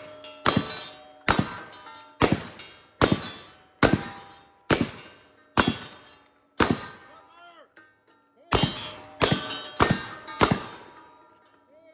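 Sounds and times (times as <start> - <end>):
sharp metallic clangs: 0.0 - 11.7.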